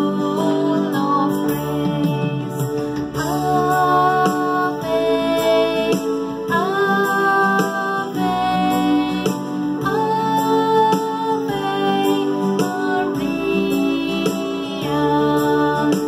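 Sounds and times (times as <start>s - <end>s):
sustained instrumental backing: 0.0s - 16.0s
woman singing a hymn: 0.0s - 16.0s.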